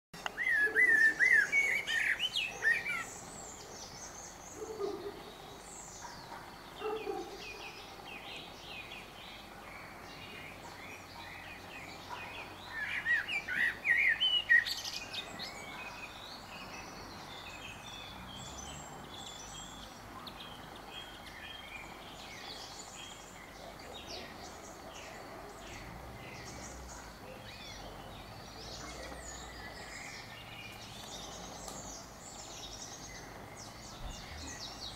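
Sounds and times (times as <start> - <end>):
blackbird singing: 0.2 - 34.9.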